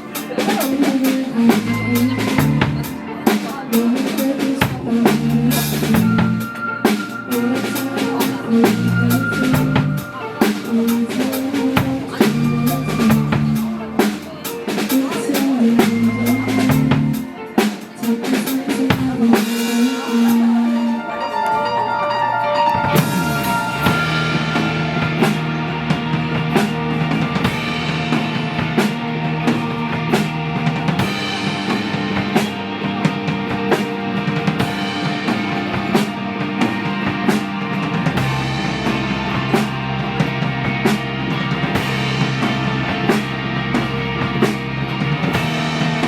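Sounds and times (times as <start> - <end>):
drum kit beat: 0.0 - 21.5, 22.6 - 46.0
live band music: 0.0 - 46.0.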